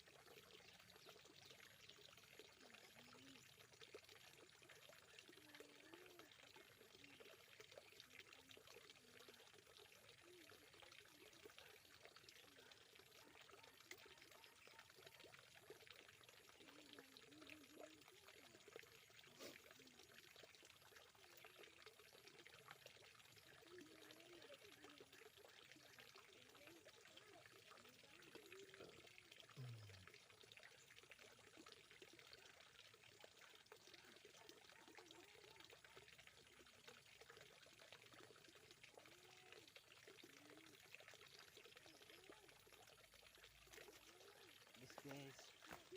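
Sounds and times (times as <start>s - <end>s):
water trickling into a pond: 0.0s - 45.9s.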